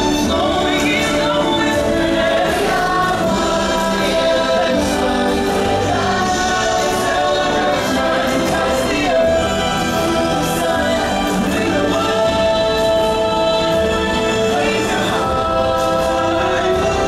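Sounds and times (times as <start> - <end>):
choir singing held chords: 0.0 - 17.0
orchestral score music: 0.0 - 17.0.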